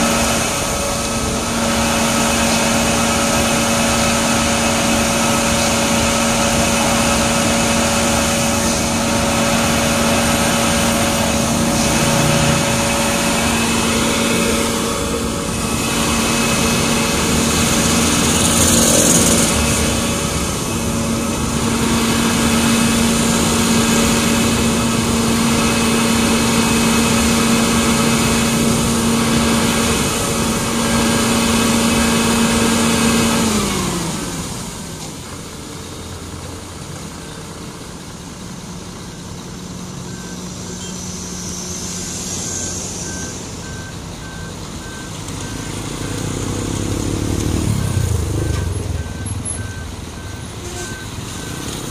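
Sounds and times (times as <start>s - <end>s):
diesel truck engine droning: 0.0s - 51.9s.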